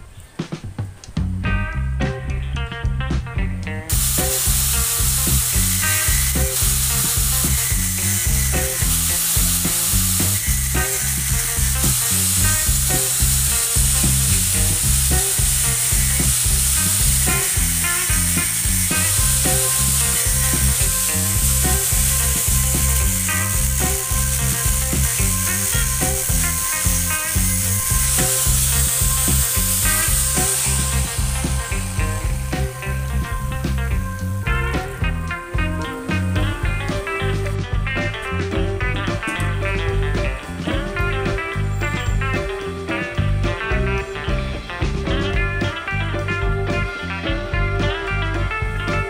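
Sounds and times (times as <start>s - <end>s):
angle grinder grinding metal: 3.9s - 46.8s.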